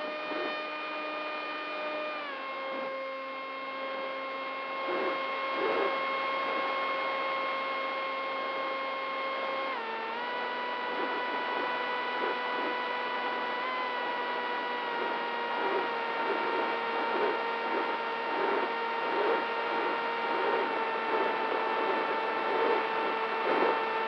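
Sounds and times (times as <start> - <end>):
electric motor and propeller whine: 0.0 - 24.0.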